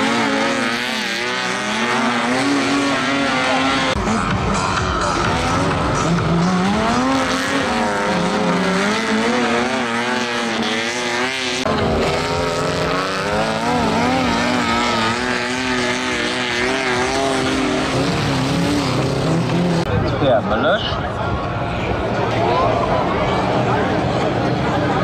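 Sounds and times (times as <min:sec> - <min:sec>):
harvester engines revving: 0:00.0 - 0:25.0.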